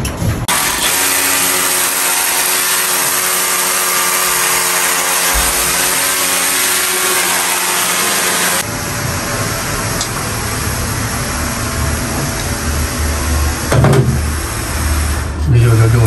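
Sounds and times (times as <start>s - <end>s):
power drill boring: 0.5s - 8.7s, 9.4s - 16.0s.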